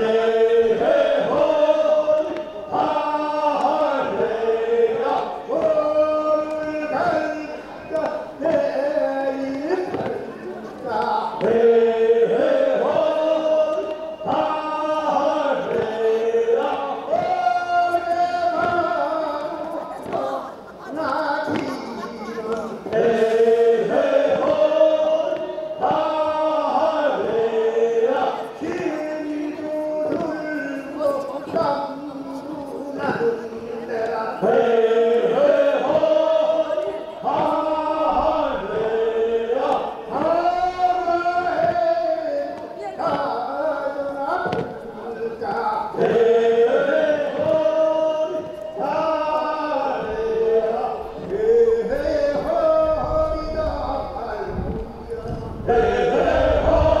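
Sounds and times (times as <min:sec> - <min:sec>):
chorus singing in unison: 0:00.0 - 0:57.0
voices chanting long held notes: 0:00.0 - 0:57.0.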